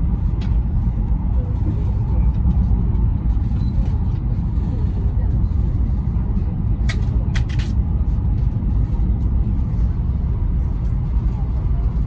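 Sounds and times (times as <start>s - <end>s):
train cabin low rumble: 0.0s - 12.0s.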